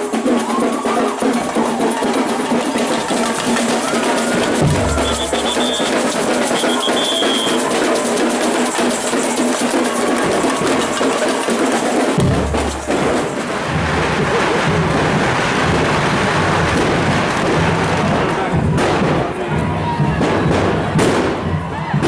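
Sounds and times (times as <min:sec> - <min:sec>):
loud crowd noise: 0:00.0 - 0:22.0
procession band drums: 0:00.0 - 0:22.0.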